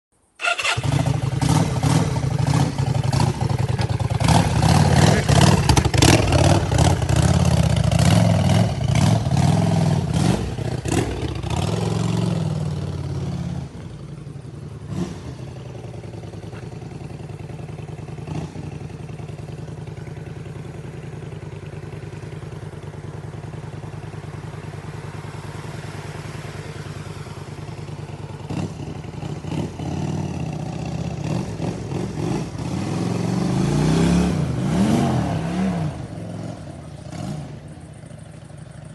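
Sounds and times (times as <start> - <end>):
motorcycle engine revving and idling: 0.2 - 38.9.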